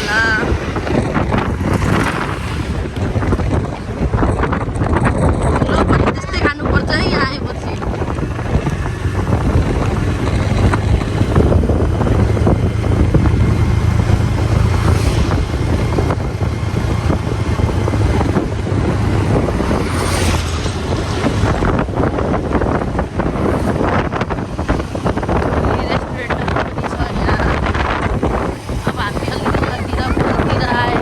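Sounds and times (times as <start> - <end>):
vehicle engine and road noise: 0.0 - 31.0
wind buffeting microphone: 0.0 - 31.0.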